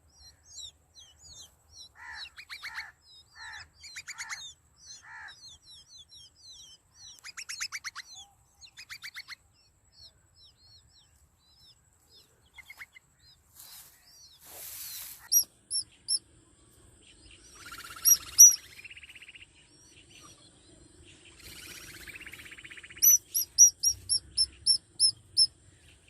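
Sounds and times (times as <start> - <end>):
baby birds chirping: 0.5 - 9.4, 11.5 - 16.2, 17.5 - 20.6, 21.2 - 25.6.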